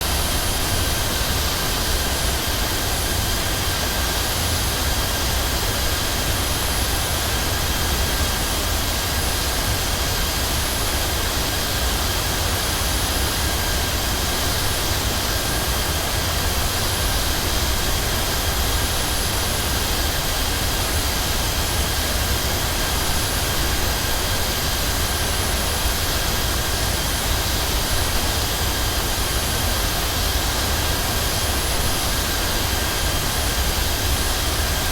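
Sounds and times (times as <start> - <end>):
jet engine drone: 0.0 - 34.9.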